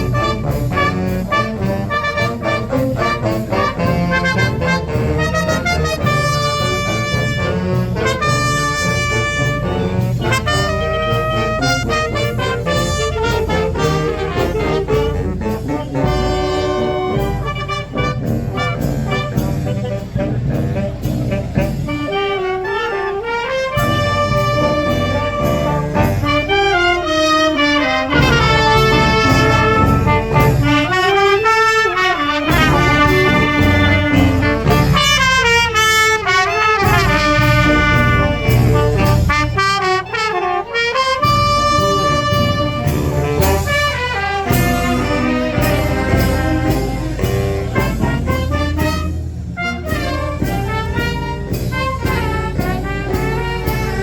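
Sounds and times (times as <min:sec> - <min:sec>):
brass band playing: 0:00.0 - 0:54.0
steady drum beat: 0:00.0 - 0:54.0.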